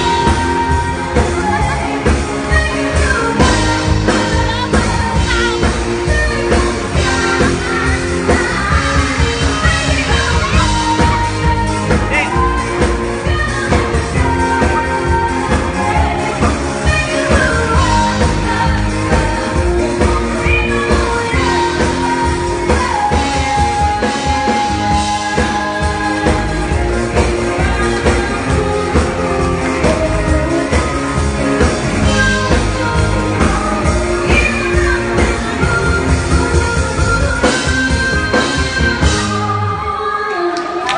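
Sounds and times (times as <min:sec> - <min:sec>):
pop-rock band playing: 0:00.0 - 0:40.9.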